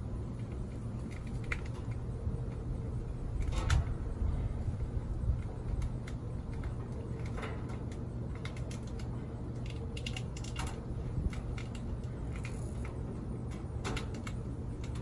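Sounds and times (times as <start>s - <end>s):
steady low rumble: 0.0s - 15.0s
light clicks and rattles of parts: 0.2s - 15.0s.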